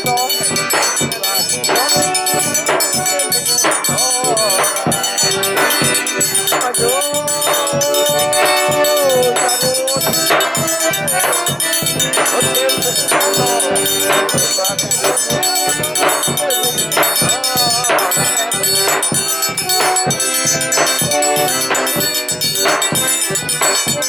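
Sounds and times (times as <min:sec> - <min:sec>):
accordion melody: 0:00.0 - 0:24.0
triangle ringing: 0:00.0 - 0:24.0.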